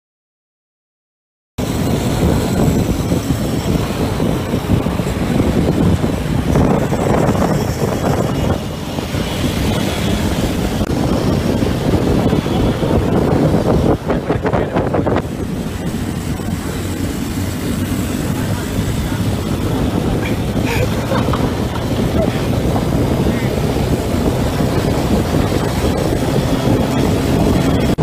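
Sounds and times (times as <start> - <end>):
road noise: 1.6 - 28.0
vehicle engines rumbling: 1.6 - 28.0
wind buffeting microphone: 1.6 - 28.0.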